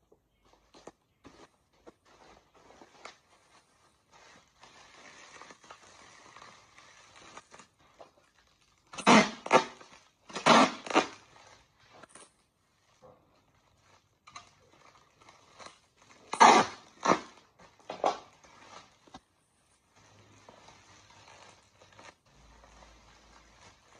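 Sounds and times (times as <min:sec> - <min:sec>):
bubble wrap rustling and crackling: 0:00.3 - 0:23.9.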